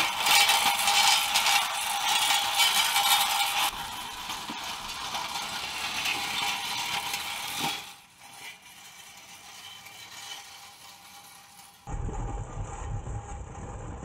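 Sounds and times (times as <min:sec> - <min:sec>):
tread belts screeching on asphalt: 0:00.0 - 0:11.9.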